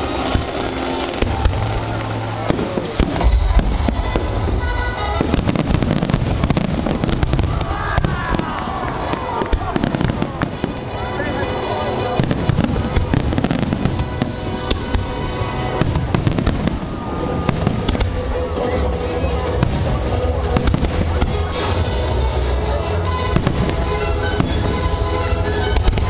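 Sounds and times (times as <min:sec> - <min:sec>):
fireworks cracking and banging: 0:00.0 - 0:26.0
music: 0:00.0 - 0:26.0.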